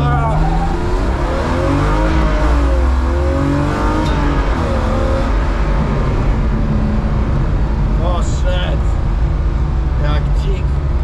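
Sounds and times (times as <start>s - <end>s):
car engine running loud: 0.0s - 11.0s.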